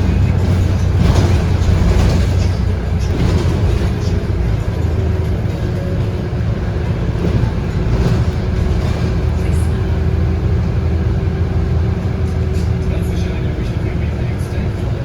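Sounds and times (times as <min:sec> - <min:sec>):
bus diesel engine hum: 0:00.0 - 0:15.0.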